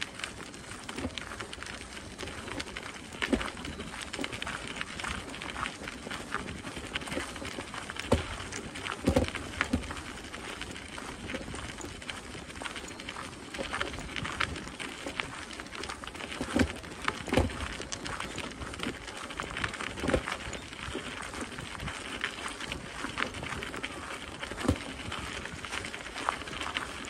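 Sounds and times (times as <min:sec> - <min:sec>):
footsteps on gravel: 0:00.0 - 0:27.0.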